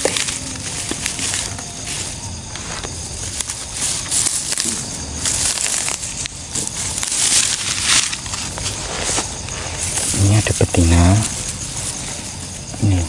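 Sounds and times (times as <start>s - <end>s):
dry grass and leaves rustling: 0.0s - 13.0s.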